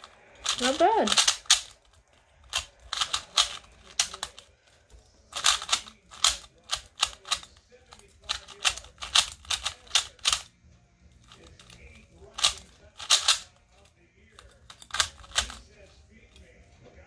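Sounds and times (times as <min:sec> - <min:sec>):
puzzle cube clacking clicks: 0:00.0 - 0:10.5, 0:11.3 - 0:13.6, 0:14.4 - 0:15.6.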